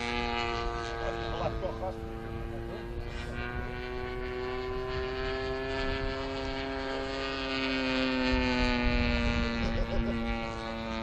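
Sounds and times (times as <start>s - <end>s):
model plane engine buzzing: 0.0s - 11.0s.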